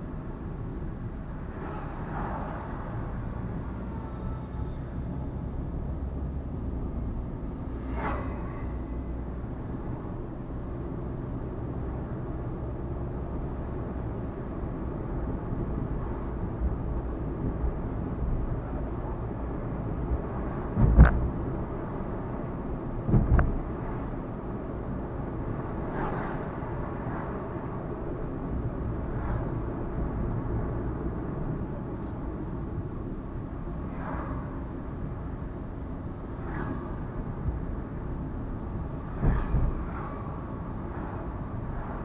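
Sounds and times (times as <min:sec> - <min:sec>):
low rumble of vehicle on road: 0:00.0 - 0:42.0.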